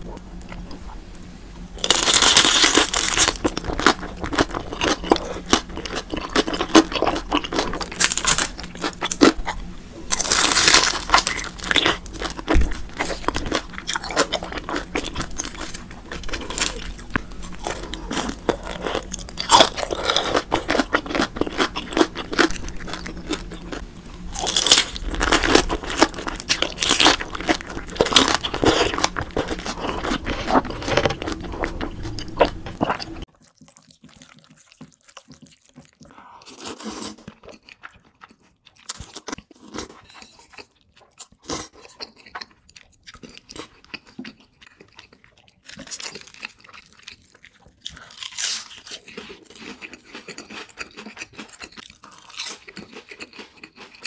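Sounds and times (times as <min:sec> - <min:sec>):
crunching and chewing fried food: 0:00.0 - 0:54.0.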